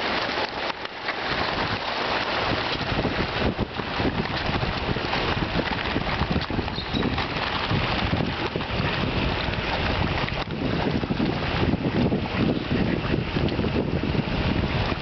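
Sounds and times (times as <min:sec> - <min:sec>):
fish splashing in pond: 0:00.0 - 0:15.0.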